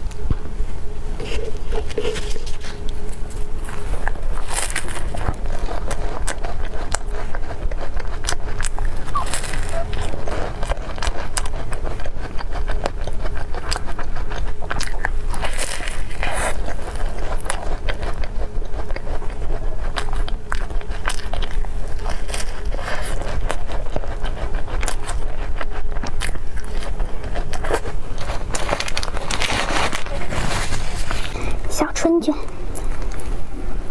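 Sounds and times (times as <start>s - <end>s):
steady low hum: 0.0s - 33.9s
pastry crunching while chewed: 1.2s - 31.7s, 32.5s - 33.9s.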